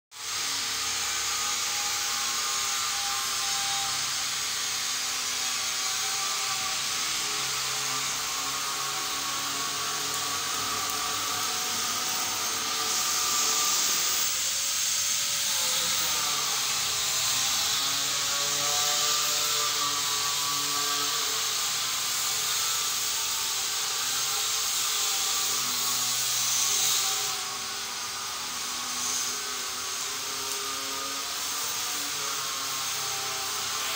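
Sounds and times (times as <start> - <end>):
motor-driven machine hissing: 0.2 - 33.9.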